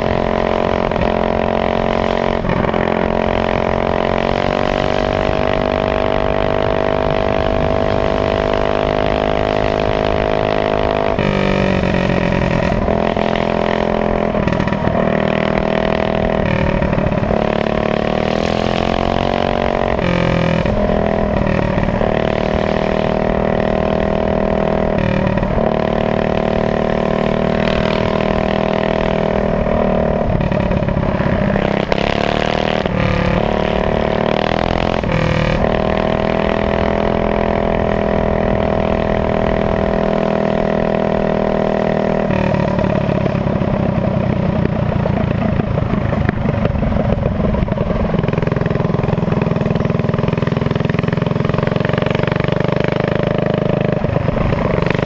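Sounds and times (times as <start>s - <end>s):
minibike engine running hard: 0.0s - 55.0s.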